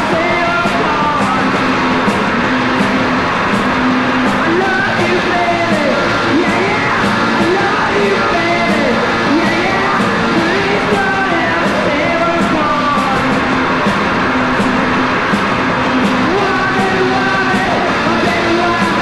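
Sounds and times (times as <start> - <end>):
loud punk rock band: 0.0 - 19.0.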